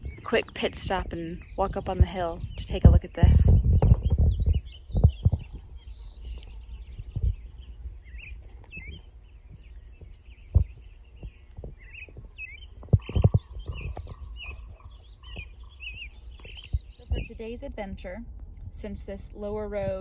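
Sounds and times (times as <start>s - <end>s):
low outdoor rumble: 0.0s - 20.0s
sharp low thumps: 0.0s - 20.0s
small birds chirping: 0.0s - 20.0s.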